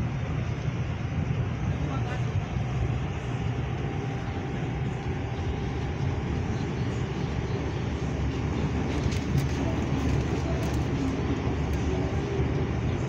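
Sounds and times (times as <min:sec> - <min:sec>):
subway car rumbling: 0:00.0 - 0:13.0.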